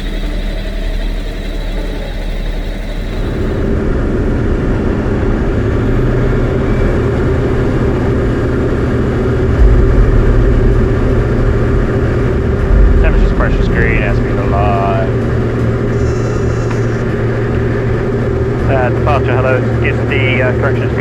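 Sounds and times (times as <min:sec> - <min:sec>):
airplane engine and propeller: 0:00.0 - 0:21.0.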